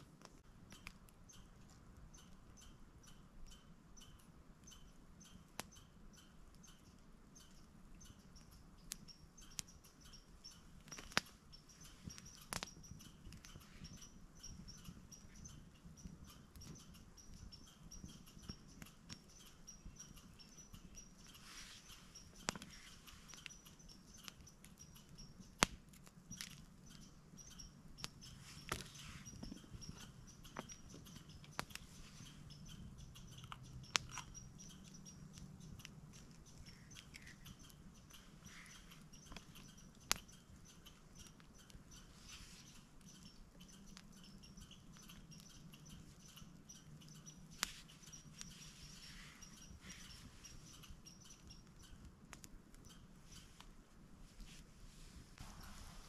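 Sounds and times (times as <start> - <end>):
high-pitched chirping: 0.6 - 53.6.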